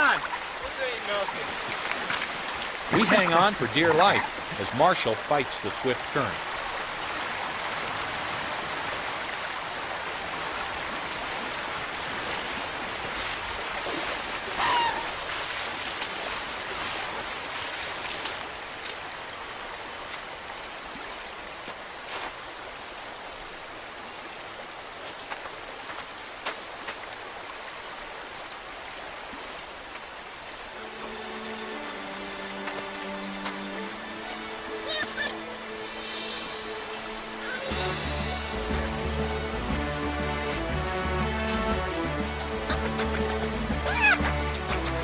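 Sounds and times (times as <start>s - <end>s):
river current rushing: 0.0s - 45.0s.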